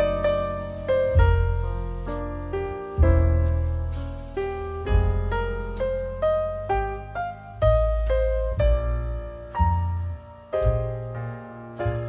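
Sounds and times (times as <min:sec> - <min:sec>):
deep bass: 0:00.0 - 0:12.0.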